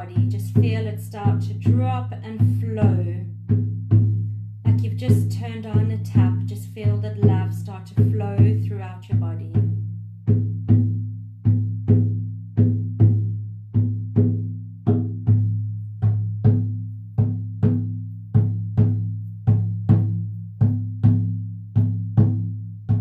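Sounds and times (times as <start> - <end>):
frame drum booming double beat: 0.0 - 23.0.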